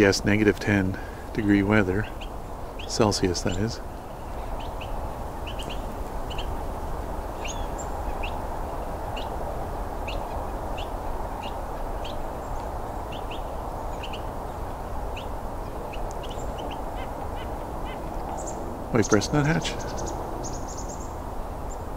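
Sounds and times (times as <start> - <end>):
songbirds giving sharp call notes: 0.0 - 21.9.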